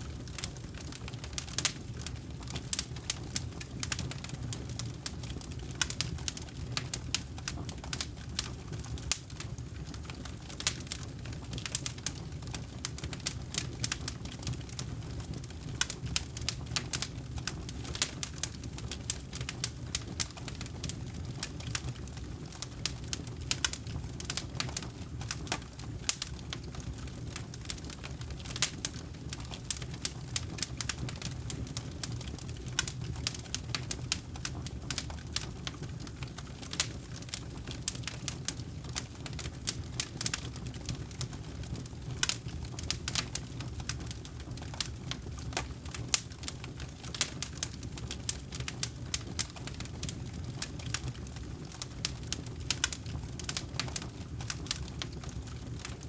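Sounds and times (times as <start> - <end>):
campfire crackling and popping: 0.0 - 56.0
low fire rumble: 0.0 - 56.0.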